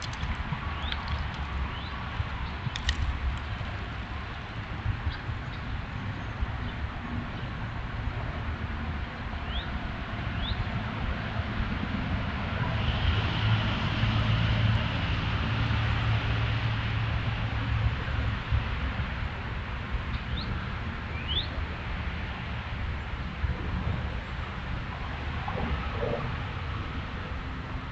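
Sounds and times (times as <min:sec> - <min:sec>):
low engine hum: 0:00.0 - 0:27.9.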